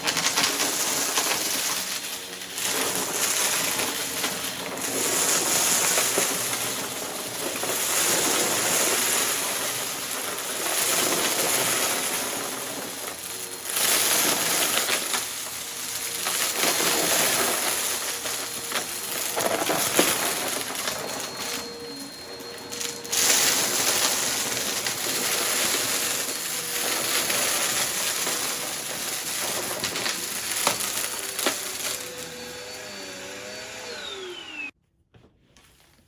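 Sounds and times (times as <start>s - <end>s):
debris crackling through vacuum: 0.0s - 32.3s
vacuum cleaner running over rug: 0.0s - 34.7s.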